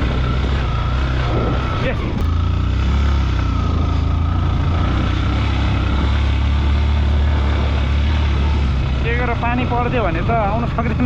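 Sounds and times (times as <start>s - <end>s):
motorcycle engine droning: 0.0s - 11.0s
road noise: 0.0s - 11.0s.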